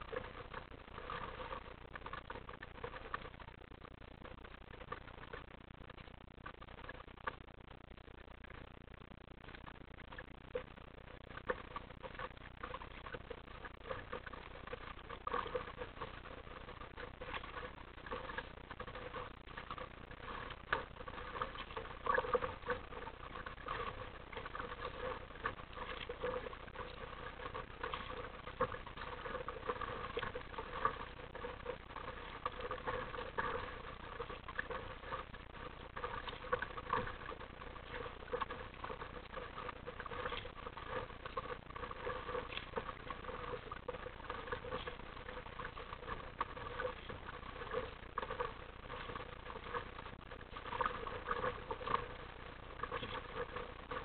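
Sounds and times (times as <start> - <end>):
water lapping against kayak hull: 0.0 - 7.8, 8.4 - 54.0
small water splashes: 0.0 - 54.0.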